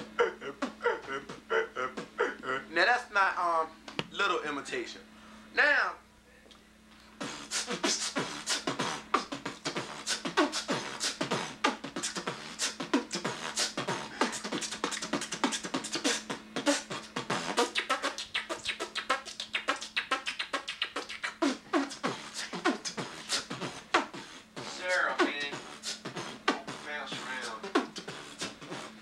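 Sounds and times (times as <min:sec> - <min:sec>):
man beatboxing: 0:00.0 - 0:03.1, 0:07.2 - 0:29.0.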